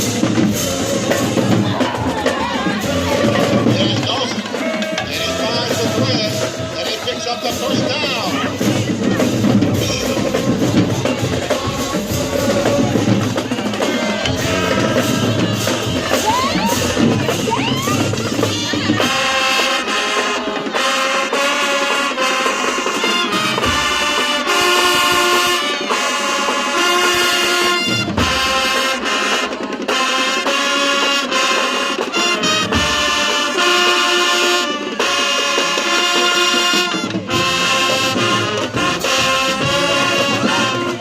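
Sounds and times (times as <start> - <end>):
marching drums and percussion: 0.0 - 41.0
brass section held chords: 2.7 - 17.5, 18.1 - 41.0.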